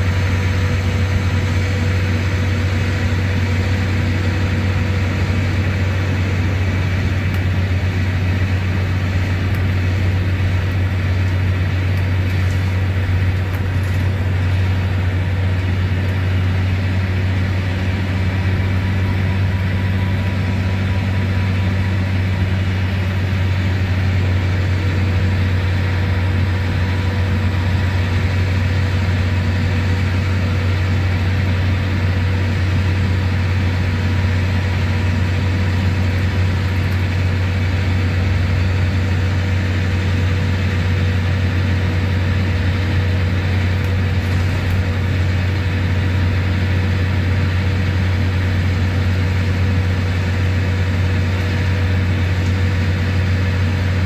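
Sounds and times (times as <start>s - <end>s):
diesel bus engine droning: 0.0s - 54.0s.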